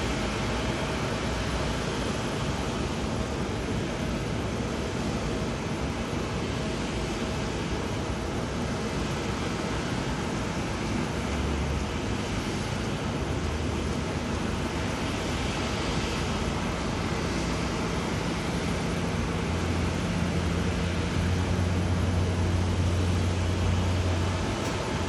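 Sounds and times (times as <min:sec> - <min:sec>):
jet engines: 0:00.0 - 0:25.0.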